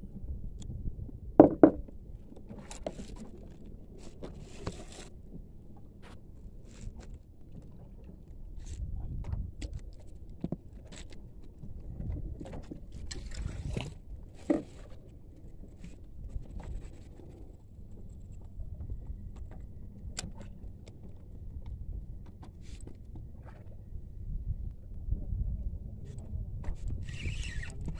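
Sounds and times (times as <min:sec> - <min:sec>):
wind and water rumble: 0:00.0 - 0:27.9.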